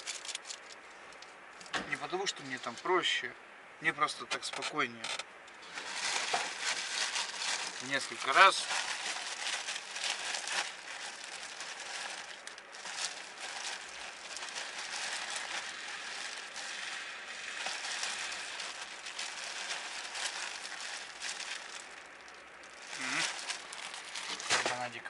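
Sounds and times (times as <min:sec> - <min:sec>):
crinkling and crackling wrapper: 0:00.0 - 0:03.3, 0:04.2 - 0:25.0.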